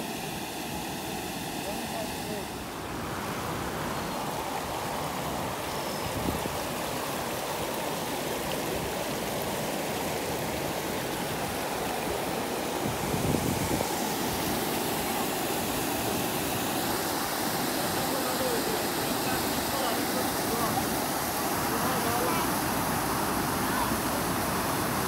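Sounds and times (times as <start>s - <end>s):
creek rushing over rocks: 0.0s - 25.0s.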